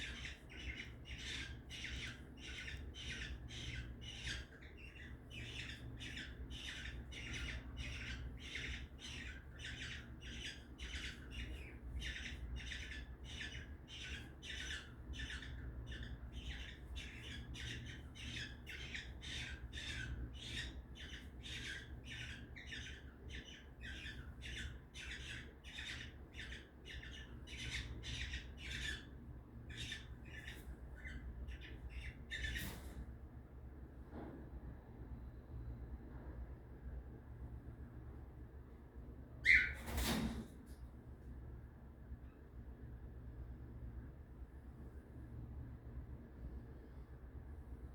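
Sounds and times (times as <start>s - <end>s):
steady low hum: 0.0s - 39.6s, 40.6s - 47.9s.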